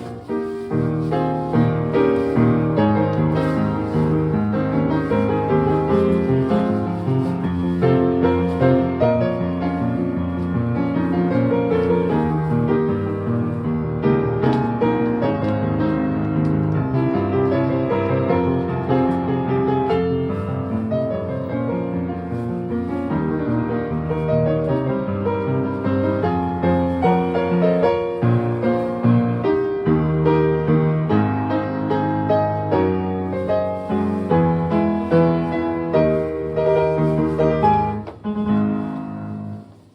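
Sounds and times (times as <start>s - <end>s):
piano playing chords and melody: 0.0s - 39.9s.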